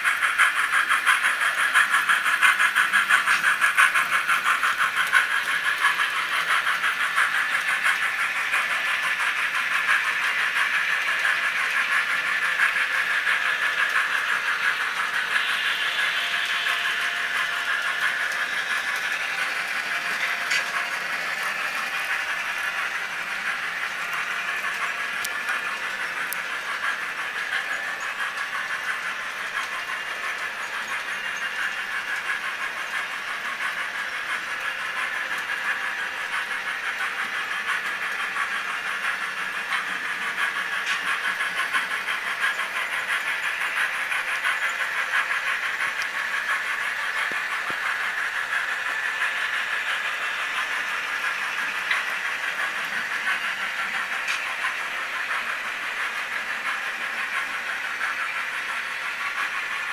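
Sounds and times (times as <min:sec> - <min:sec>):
fine rapid clicking: 0:00.0 - 0:59.9
model train motor whirring: 0:00.0 - 0:59.9.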